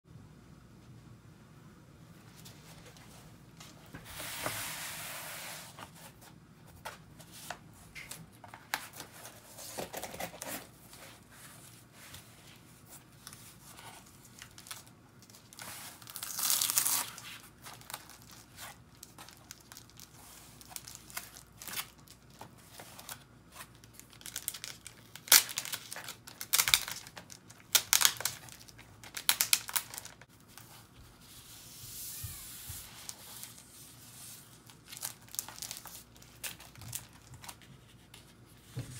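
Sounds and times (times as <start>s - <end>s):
paper and card rustling: 2.3s - 38.9s.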